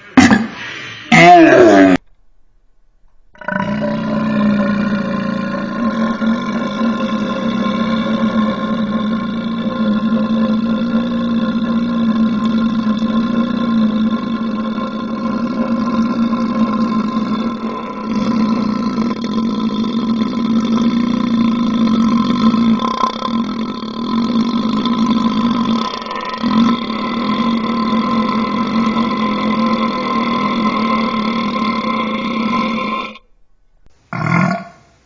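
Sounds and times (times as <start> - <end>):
person belching: 0.1 - 2.0, 3.3 - 33.3, 34.1 - 34.9.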